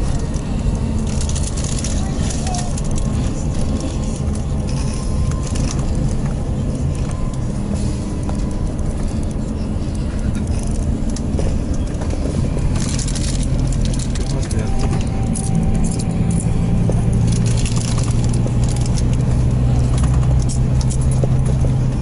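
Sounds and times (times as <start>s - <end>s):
bus engine drone: 0.0s - 22.0s
road and tyre noise: 0.0s - 22.0s.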